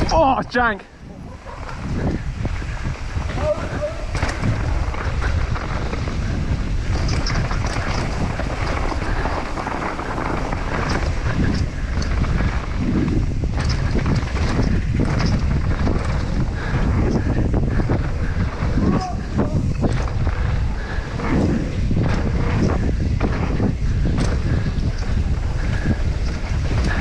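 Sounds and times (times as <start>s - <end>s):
bike clicks and rattles: 0.0s - 0.4s, 1.3s - 27.0s
wind buffeting microphone: 0.0s - 27.0s.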